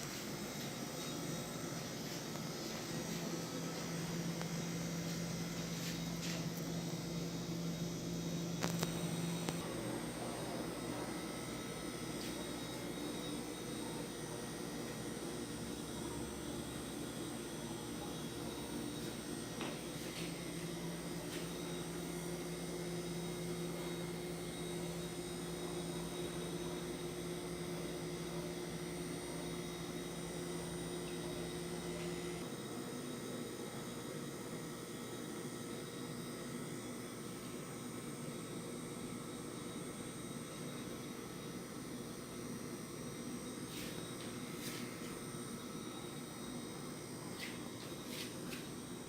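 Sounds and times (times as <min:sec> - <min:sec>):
microwave oven humming: 0:00.0 - 0:49.0.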